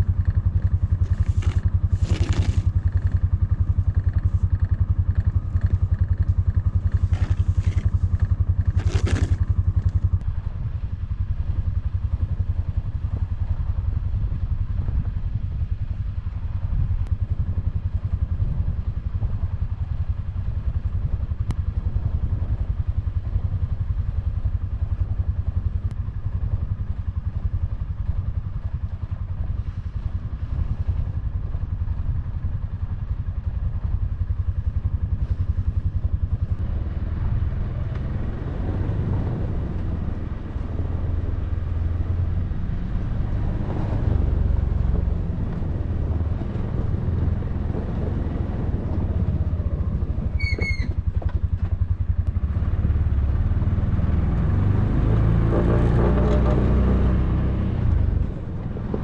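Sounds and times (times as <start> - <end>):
utility vehicle engine idling: 0.0 - 59.0.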